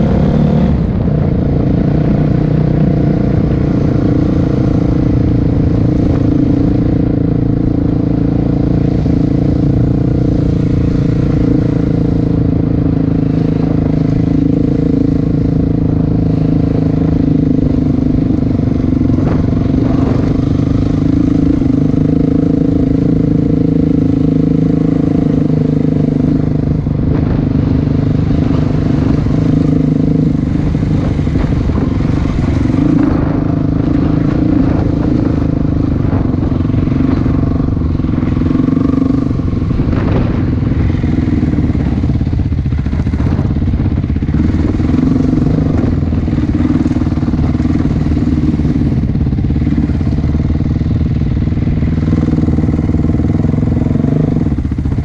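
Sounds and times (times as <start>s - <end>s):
ride noise: 0.0s - 55.0s
vehicle engine running: 0.0s - 55.0s.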